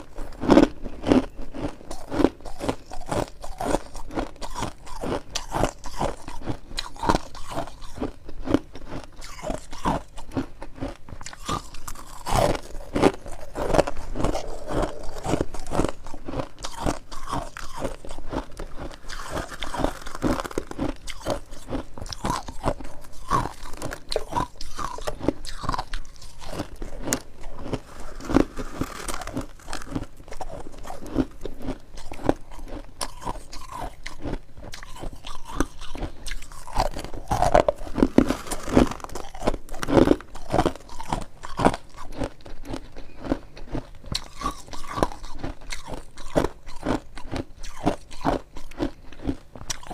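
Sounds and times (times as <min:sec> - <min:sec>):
chewing frost crunches: 0:00.0 - 0:49.9.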